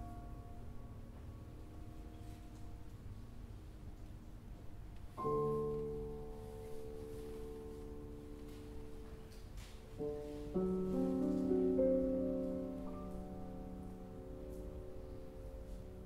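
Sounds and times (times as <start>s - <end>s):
grand piano chords and melody: 0.0s - 16.0s.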